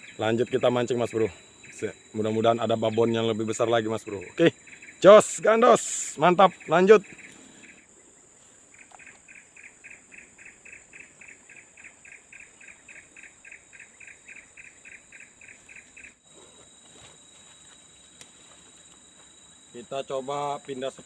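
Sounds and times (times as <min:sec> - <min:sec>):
high-pitched insect chirring: 0:00.0 - 0:21.0.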